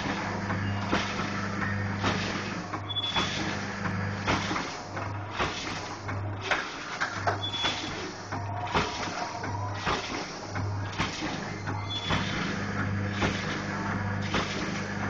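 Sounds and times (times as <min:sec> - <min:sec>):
packing machine jaws clacking: 0:02.0 - 0:15.0.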